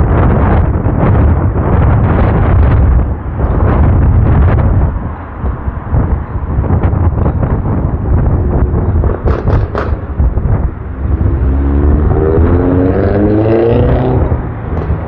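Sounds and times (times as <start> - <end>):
wind buffeting microphone: 0.0 - 15.0
vehicle engine hum passing: 2.5 - 15.0.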